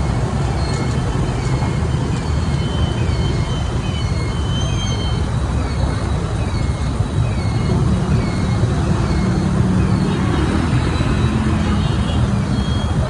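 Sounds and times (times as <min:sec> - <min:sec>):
road and wind rumble: 0:00.0 - 0:13.0.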